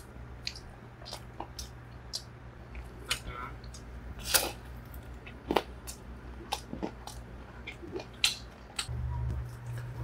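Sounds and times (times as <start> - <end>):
low steady hum: 0.0 - 10.0
chewing and biting pizza: 0.3 - 10.0.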